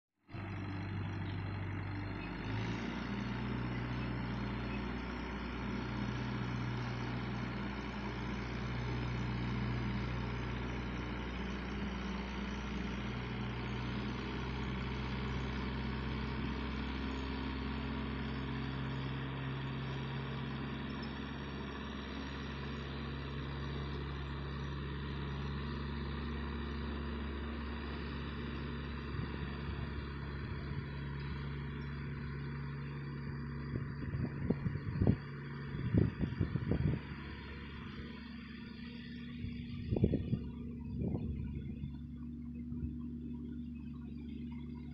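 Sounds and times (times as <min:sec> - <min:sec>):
tractor engines idling: 0:00.3 - 0:44.9.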